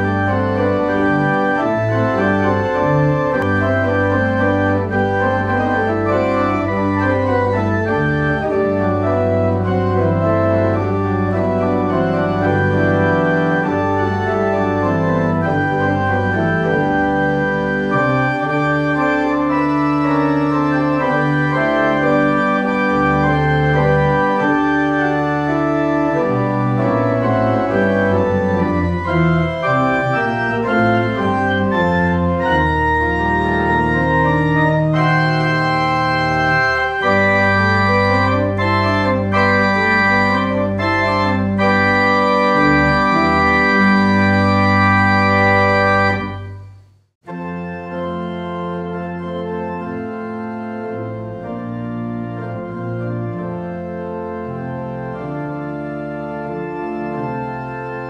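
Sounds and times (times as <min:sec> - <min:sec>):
organ playing chords: 0:00.0 - 0:58.0.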